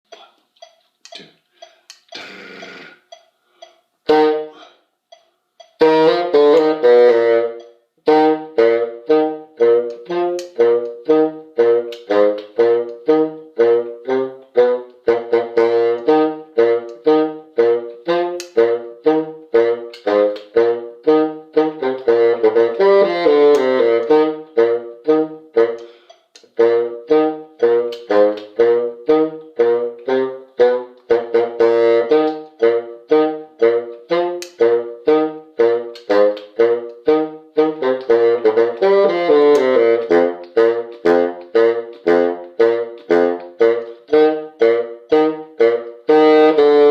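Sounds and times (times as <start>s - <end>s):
saxophone and brass music: 4.0s - 4.8s, 5.8s - 46.9s.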